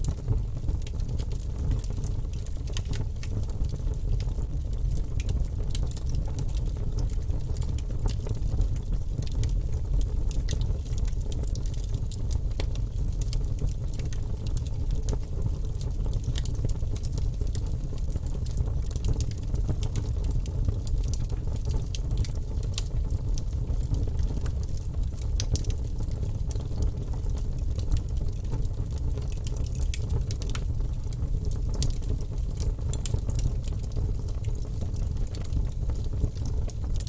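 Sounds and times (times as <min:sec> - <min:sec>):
fire crackling and popping: 0:00.0 - 0:37.0
low rumble of flames: 0:00.0 - 0:37.0.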